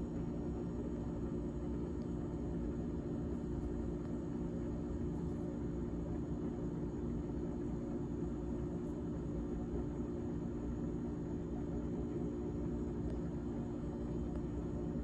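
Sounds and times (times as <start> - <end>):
refrigerator humming: 0.0 - 15.0.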